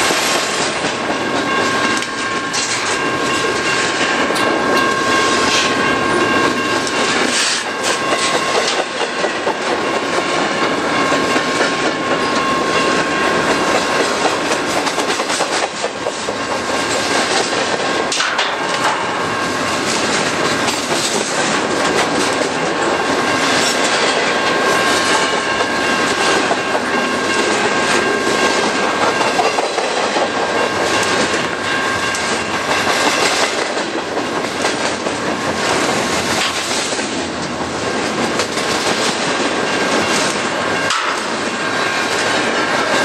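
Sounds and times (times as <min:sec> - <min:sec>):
steel wheels on rails: 0:00.0 - 0:43.0.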